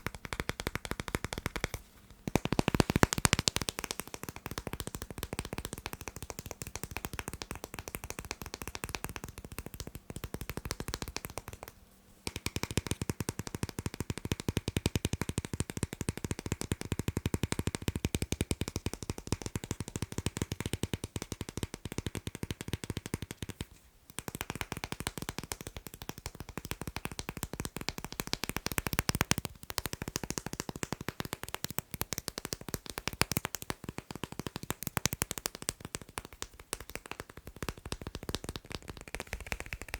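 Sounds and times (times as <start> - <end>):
fast tapping on magnets: 0.0 - 39.9.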